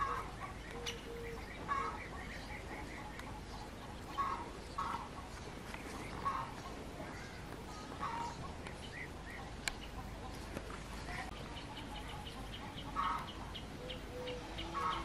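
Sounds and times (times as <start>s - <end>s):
birds chirping: 0.0s - 15.0s
loud bird calls: 0.0s - 15.0s.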